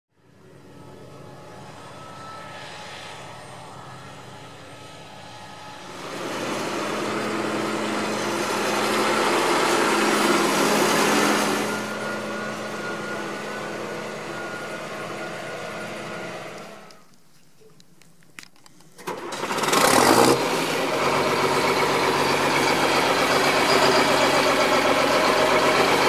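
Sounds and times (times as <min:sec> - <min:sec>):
tractor diesel engine running: 0:00.2 - 0:17.1, 0:19.0 - 0:26.0.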